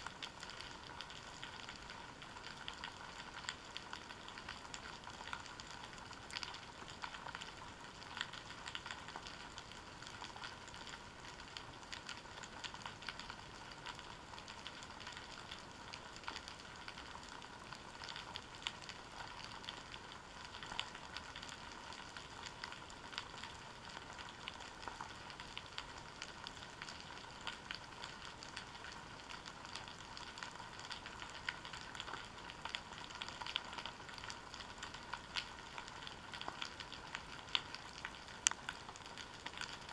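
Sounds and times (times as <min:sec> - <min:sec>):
underwater crackling and clicking: 0:00.0 - 0:39.9.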